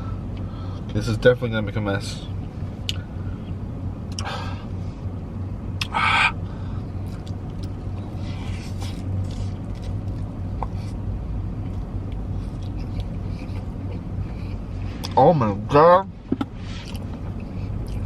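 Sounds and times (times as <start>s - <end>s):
car idling hum: 0.0s - 18.0s.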